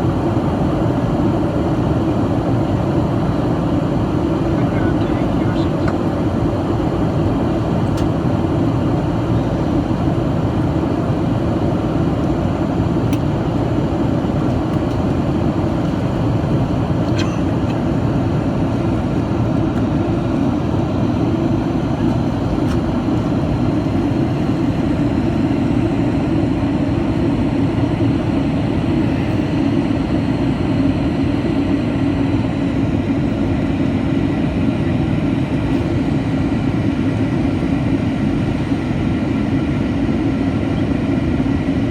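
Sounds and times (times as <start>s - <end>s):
jet engine rumble: 0.0s - 41.9s.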